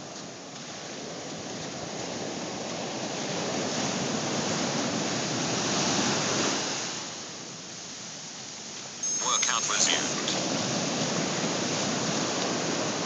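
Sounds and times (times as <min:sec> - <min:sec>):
ocean surf washing up beach: 0:00.0 - 0:13.0.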